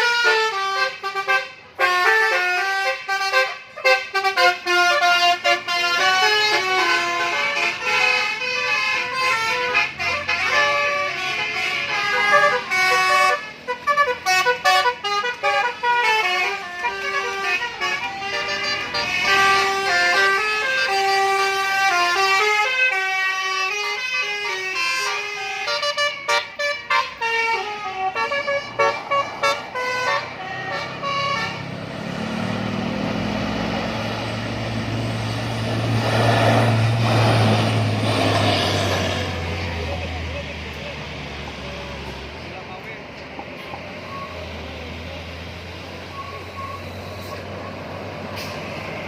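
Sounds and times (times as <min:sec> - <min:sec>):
bus musical horn melody: 0:00.0 - 0:39.8.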